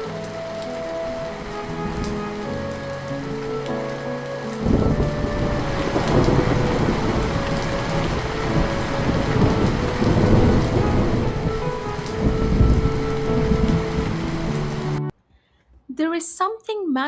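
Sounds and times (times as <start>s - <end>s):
heavy rain: 0.0s - 15.1s
thunder rumbling: 0.0s - 15.1s.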